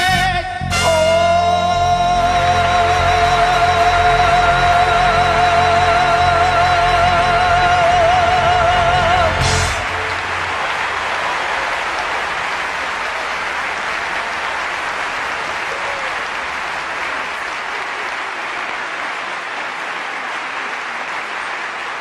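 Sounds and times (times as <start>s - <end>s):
audience applauding: 3.3s - 22.0s.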